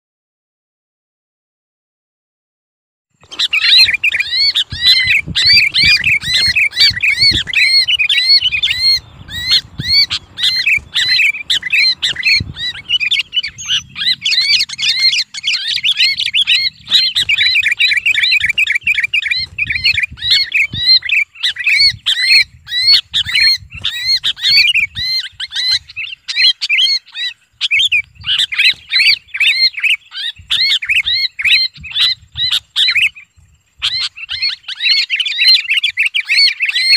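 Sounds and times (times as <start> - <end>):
bird shrill distress screams: 3.2 - 36.9.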